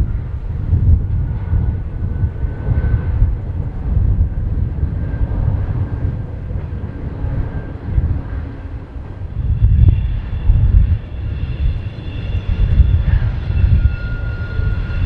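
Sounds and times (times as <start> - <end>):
faint whining tones: 0.0 - 15.0
train wheels rumbling on rail: 0.0 - 15.0.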